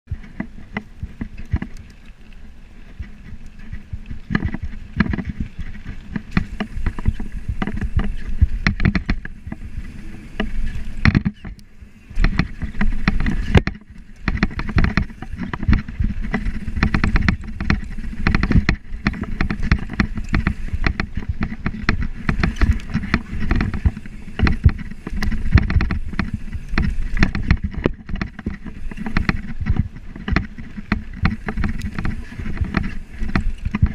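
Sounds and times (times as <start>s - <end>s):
bike rattling and knocking: 0.1s - 33.9s
tyres rumbling on gravel: 0.1s - 33.9s
wind on microphone: 0.1s - 33.9s.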